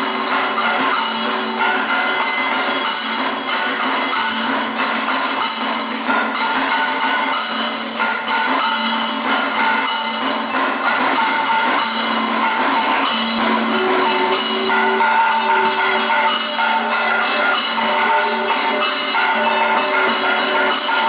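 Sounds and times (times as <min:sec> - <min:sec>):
cymbals and gong ringing: 0:00.0 - 0:21.0
drums: 0:00.0 - 0:21.0.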